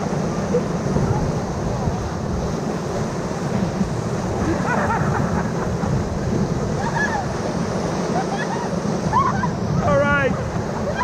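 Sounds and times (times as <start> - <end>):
whitewater rushing and crashing: 0.0 - 11.0.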